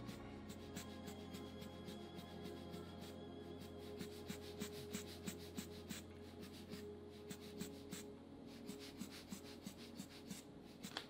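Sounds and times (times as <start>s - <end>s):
faint low hum: 0.0s - 11.0s
marker scratching on paper: 0.0s - 11.0s.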